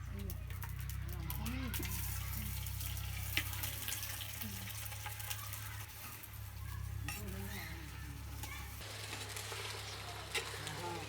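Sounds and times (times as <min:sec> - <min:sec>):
chicken sizzling in oil: 0:00.4 - 0:07.1, 0:07.9 - 0:11.0.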